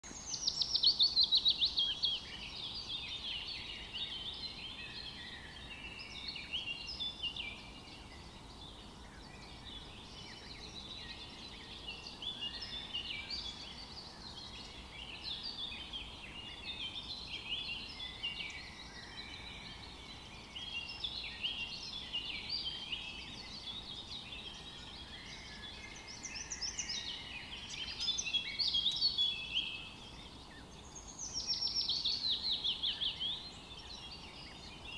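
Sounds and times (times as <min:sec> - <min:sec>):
faint background hiss: 0:00.0 - 0:34.9
songbirds singing and chirping: 0:00.0 - 0:34.9.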